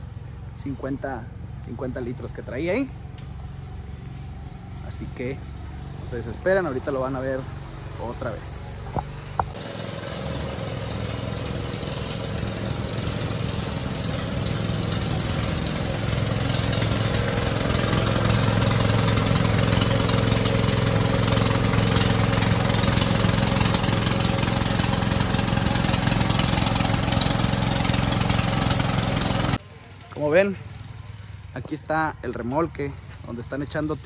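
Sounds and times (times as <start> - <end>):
sprayer engine humming: 1.3 - 34.0.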